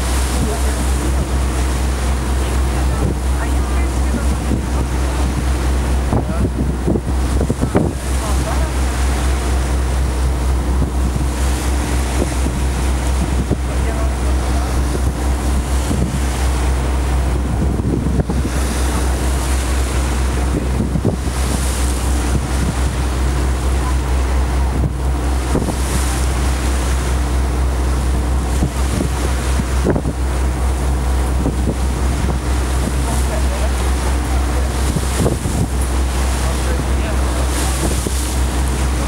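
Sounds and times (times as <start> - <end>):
boat engine droning: 0.0 - 39.0
water washing along hull: 0.0 - 39.0
wind buffeting microphone: 0.0 - 39.0.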